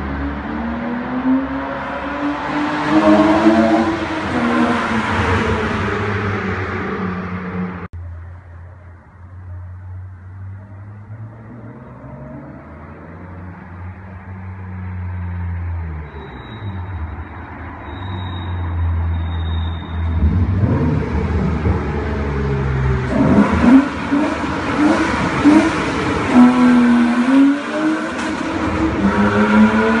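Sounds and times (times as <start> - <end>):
car engine revving in a tunnel: 0.0 - 7.9, 9.7 - 30.0.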